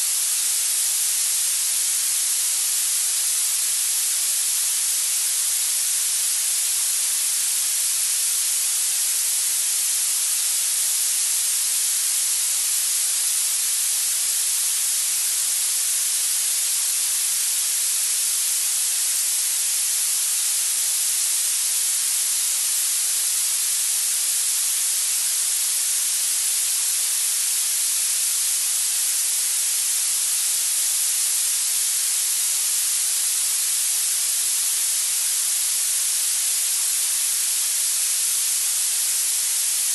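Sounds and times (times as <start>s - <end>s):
steady electronic hiss: 0.0s - 39.9s.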